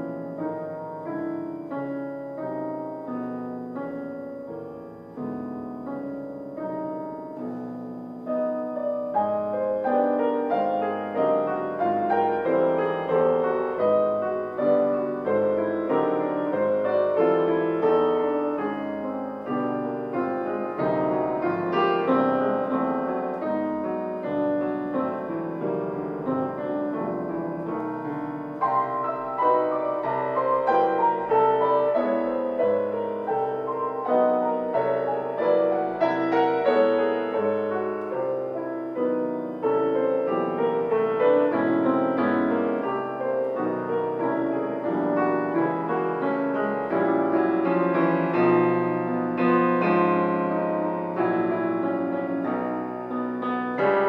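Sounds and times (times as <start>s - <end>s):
classical piano piece: 0.0s - 54.0s.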